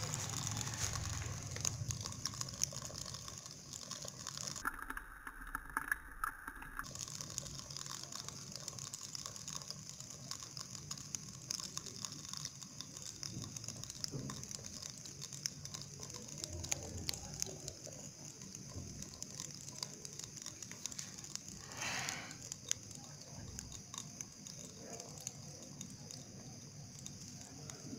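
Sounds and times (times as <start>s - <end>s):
hot oil sizzling and popping: 0.0s - 27.9s.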